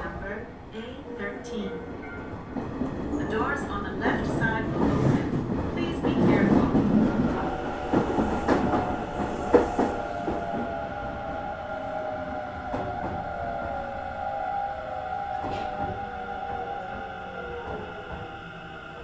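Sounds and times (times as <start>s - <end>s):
train running noise: 0.0s - 19.0s.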